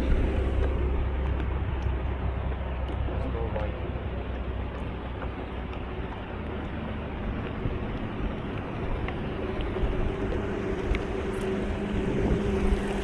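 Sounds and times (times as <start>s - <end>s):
low motor hum: 0.0s - 13.0s
wind or water noise: 0.0s - 13.0s.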